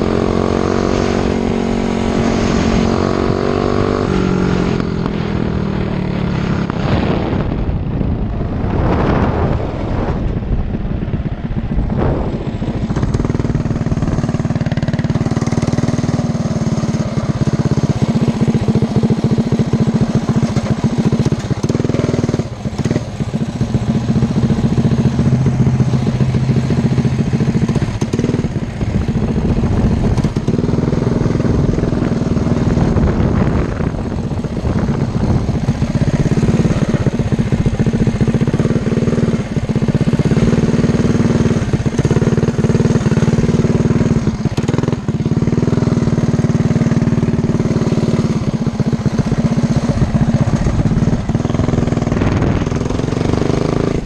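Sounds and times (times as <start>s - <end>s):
mini bike engine running: 0.0s - 54.0s.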